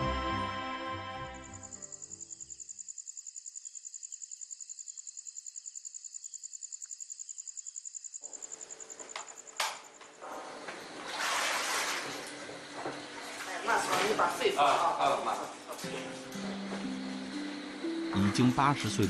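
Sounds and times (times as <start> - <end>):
cricket trilling: 1.4 - 11.1, 12.3 - 19.0.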